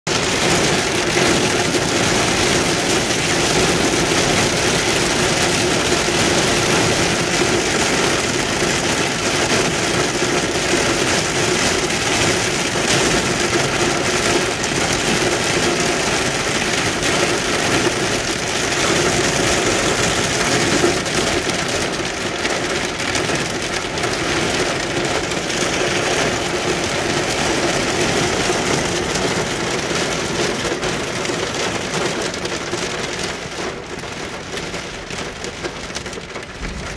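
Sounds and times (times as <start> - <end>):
heavy rain on car windshield: 0.1 - 36.9.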